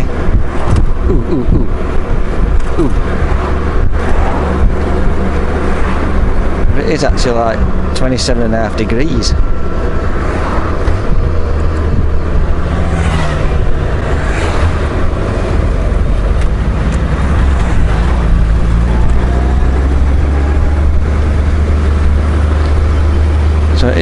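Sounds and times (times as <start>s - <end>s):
wind noise on microphone: 0.0s - 8.0s, 9.2s - 23.7s
motorcycle engine drone: 0.0s - 24.0s.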